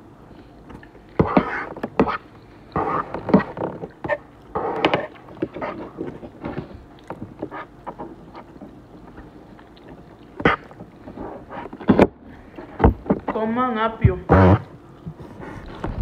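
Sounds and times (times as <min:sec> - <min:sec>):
chewing: 0:00.4 - 0:13.2.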